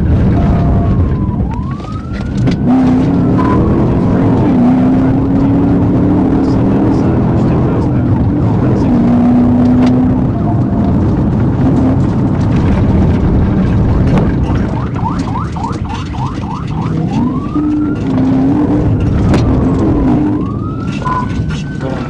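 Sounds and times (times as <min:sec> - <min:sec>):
police siren yelping and wailing: 0:00.0 - 0:12.2, 0:13.5 - 0:22.0
engine and road noise: 0:00.0 - 0:22.0.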